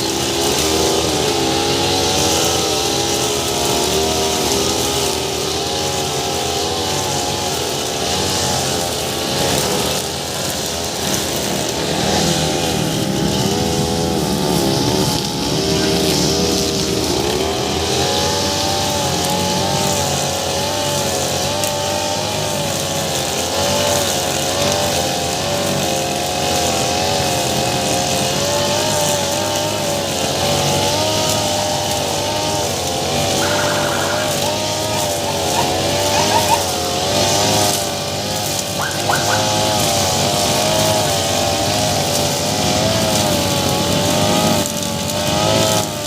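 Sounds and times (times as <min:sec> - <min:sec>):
brush cutter cutting grass: 0:00.0 - 0:46.0.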